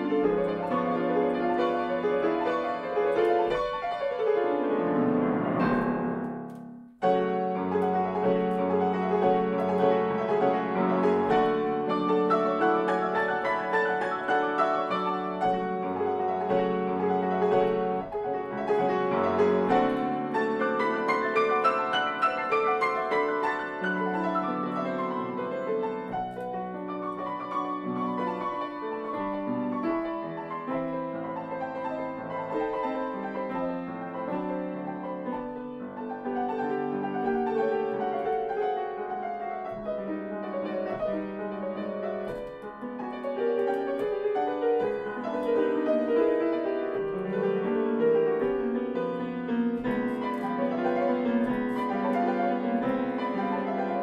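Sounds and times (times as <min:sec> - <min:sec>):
classical grand piano: 0:00.0 - 0:54.0.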